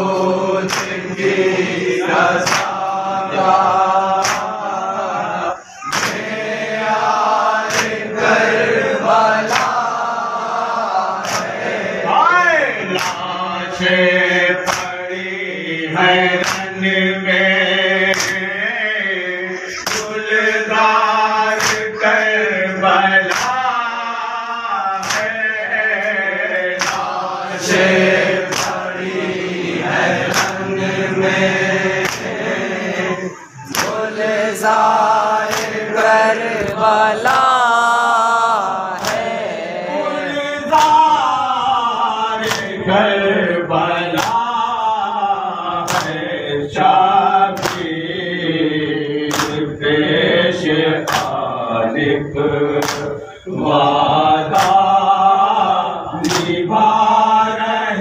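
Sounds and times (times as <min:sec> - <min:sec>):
men chanting through a microphone: 0:00.0 - 0:58.0.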